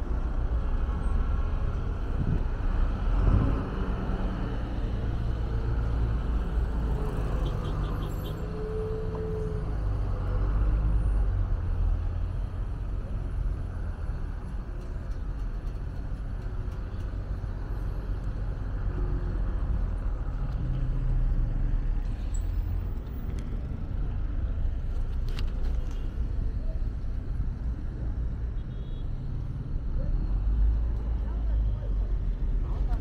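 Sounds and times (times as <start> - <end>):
vehicles passing on street: 0.0 - 33.0.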